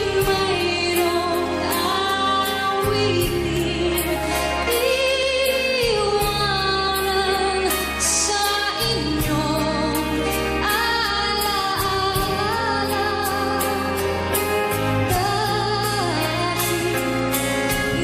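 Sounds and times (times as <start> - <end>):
band playing steady beat: 0.0 - 18.0
woman singing with vibrato: 0.0 - 18.0.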